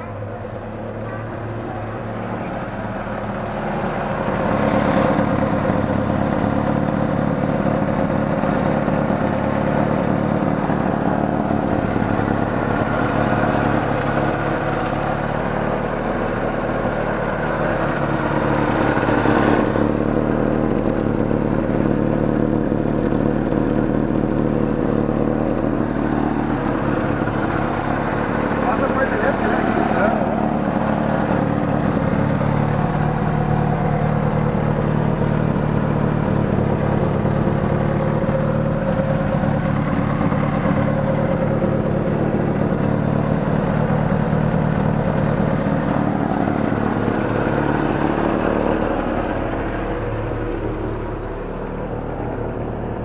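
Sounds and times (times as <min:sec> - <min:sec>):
engine rumbling: 0:00.0 - 0:53.0.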